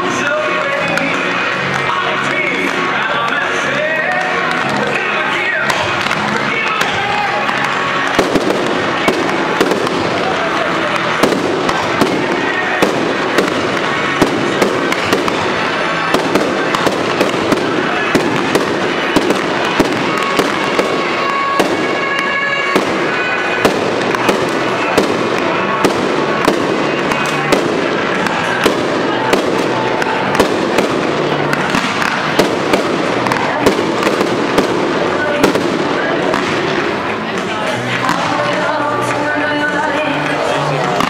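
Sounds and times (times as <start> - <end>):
continuous din: 0.0 - 41.0.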